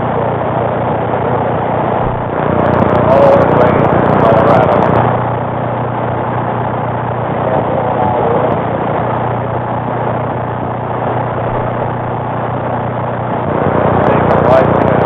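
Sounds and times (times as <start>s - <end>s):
low electrical hum: 0.0s - 15.0s
radio static hiss: 0.0s - 15.0s.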